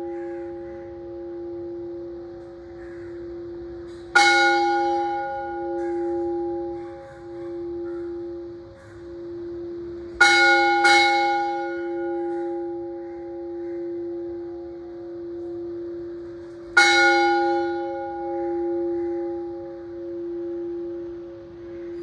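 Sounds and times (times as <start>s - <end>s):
temple bell ringing: 0.0s - 22.0s.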